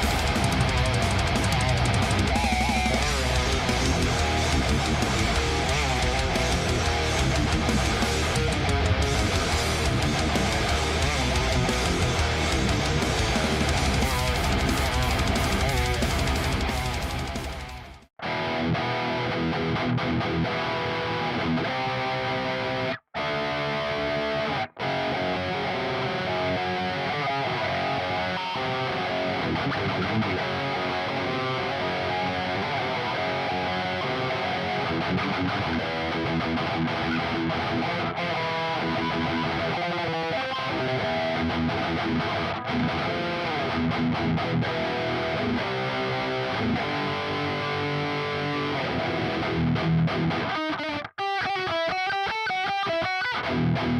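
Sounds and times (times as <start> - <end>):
distorted electric guitar riffs: 0.0 - 53.9.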